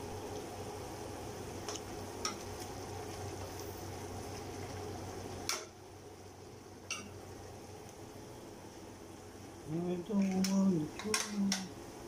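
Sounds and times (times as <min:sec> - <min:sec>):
pot simmering with bubbling hiss: 0:00.0 - 0:12.0.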